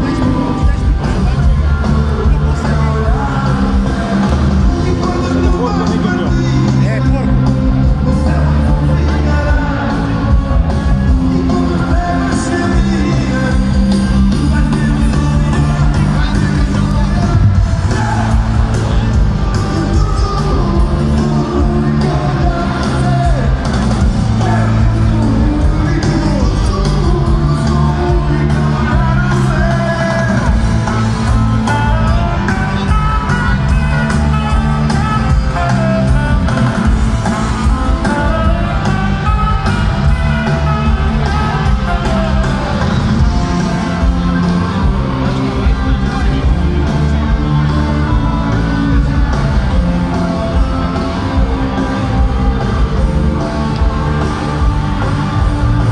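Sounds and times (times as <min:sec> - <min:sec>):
heavy bass notes: 0:00.0 - 0:55.9
live rock band playing: 0:00.0 - 0:55.9
person singing: 0:08.0 - 0:55.9.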